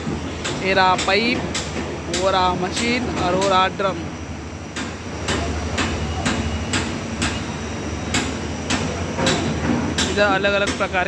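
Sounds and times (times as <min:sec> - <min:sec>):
diesel machinery humming: 0:00.0 - 0:11.0.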